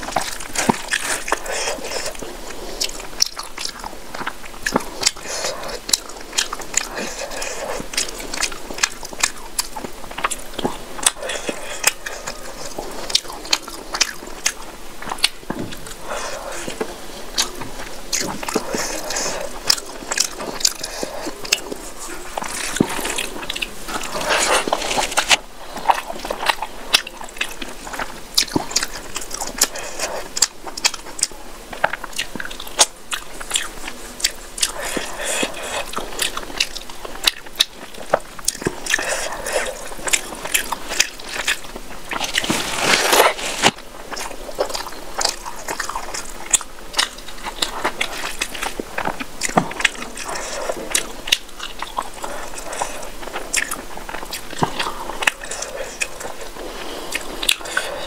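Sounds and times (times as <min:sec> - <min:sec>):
chewing with lip smacks: 0:00.0 - 0:58.0.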